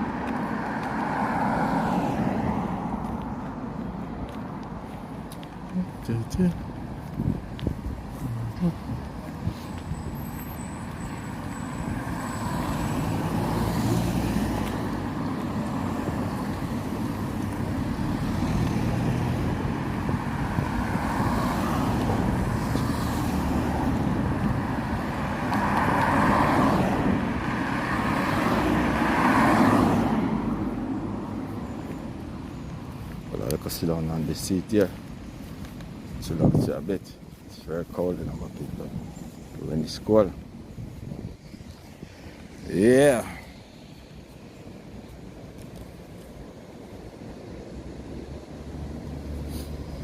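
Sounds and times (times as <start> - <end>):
cars passing: 0.0 - 50.0.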